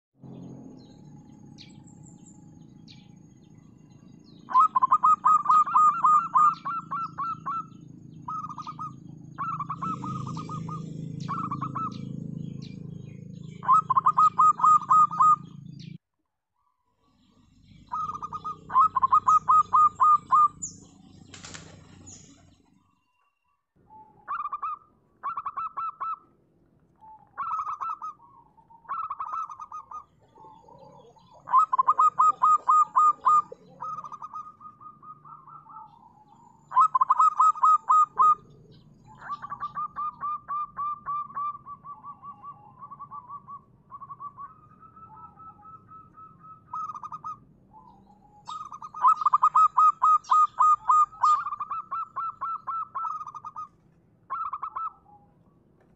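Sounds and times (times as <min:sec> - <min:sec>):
dove cooing: 0:00.4 - 0:16.0, 0:17.6 - 0:22.9, 0:23.9 - 0:26.4, 0:27.0 - 0:55.6.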